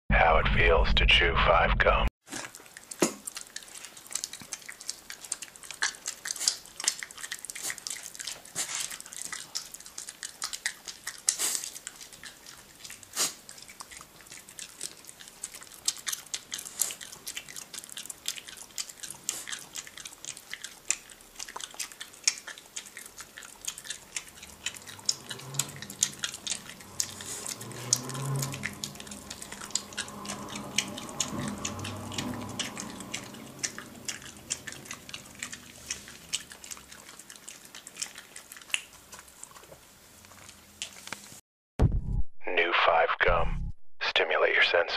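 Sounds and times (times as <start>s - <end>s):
dog chewing with wet smacks: 2.3s - 41.4s.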